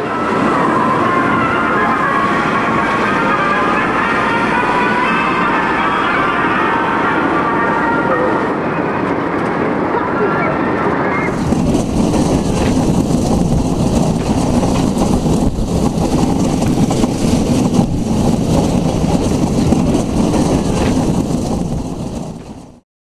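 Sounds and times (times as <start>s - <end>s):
coaster cars rumbling down trough: 0.0s - 22.8s.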